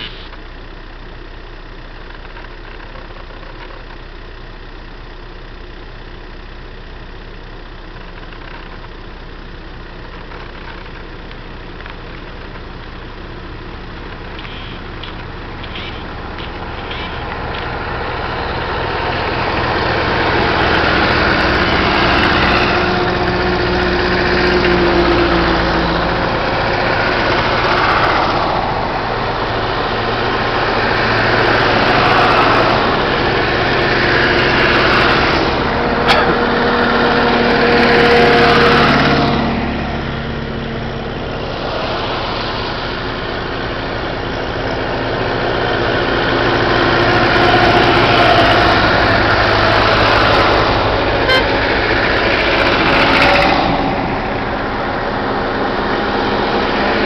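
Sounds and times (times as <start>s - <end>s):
tractor engines driving past: 0.0s - 57.0s.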